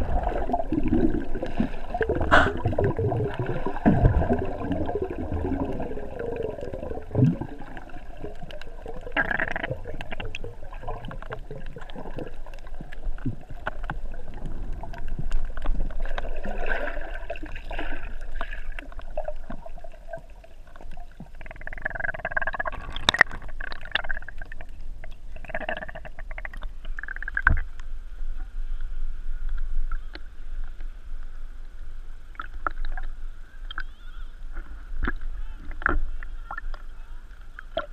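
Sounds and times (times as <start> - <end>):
underwater water gurgling: 0.0 - 37.9.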